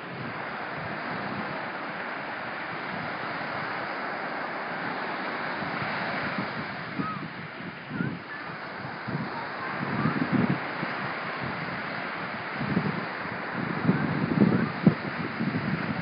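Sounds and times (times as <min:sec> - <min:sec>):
ocean surf washing onto beach: 0:00.0 - 0:16.0
wind on microphone: 0:00.0 - 0:16.0.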